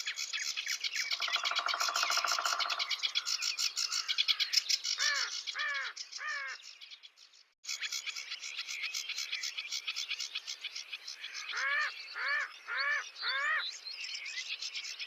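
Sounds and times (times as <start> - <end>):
short arching bird calls: 0.0 - 7.0, 7.6 - 13.8
birds chirping rapidly: 0.0 - 15.0.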